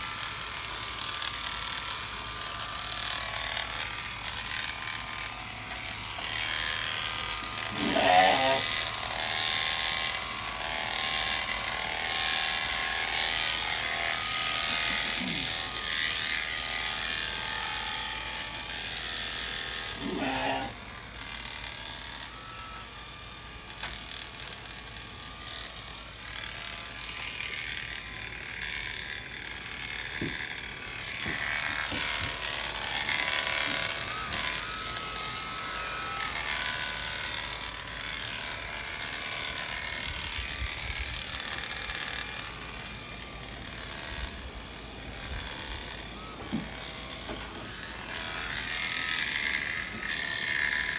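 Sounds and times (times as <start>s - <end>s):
electric shearing clippers buzzing: 0.0s - 50.9s.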